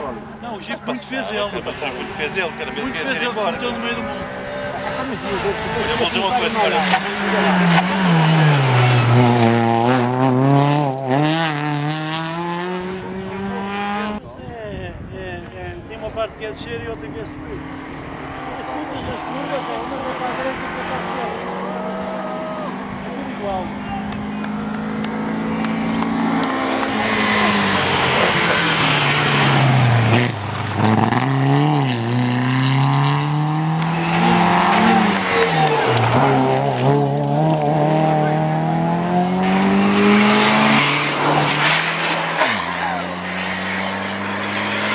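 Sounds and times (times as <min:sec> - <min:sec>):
rally car engine revving: 0:00.0 - 0:14.2, 0:16.3 - 0:44.9.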